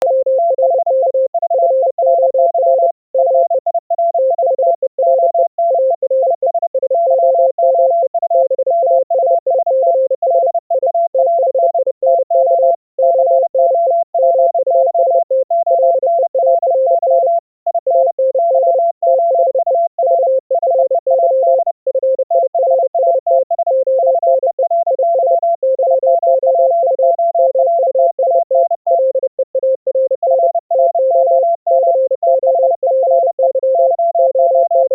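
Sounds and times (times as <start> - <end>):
high morse code tone: 0.0 - 34.9
low morse code tone: 0.0 - 34.9.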